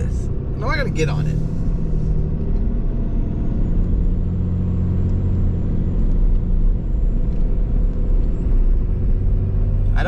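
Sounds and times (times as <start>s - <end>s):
diesel engine rumble: 0.0s - 10.0s.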